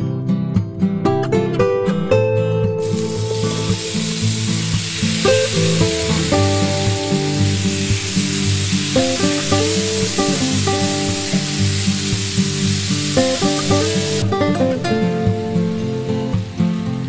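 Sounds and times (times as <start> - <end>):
background music: 0.0 - 17.0
chicken sizzling in hot oil: 2.8 - 17.0.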